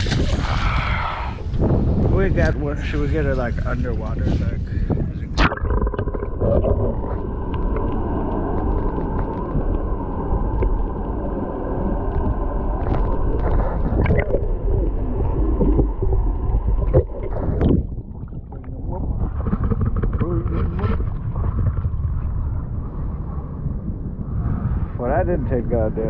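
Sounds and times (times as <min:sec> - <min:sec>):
muffled underwater rumble: 0:00.0 - 0:26.0.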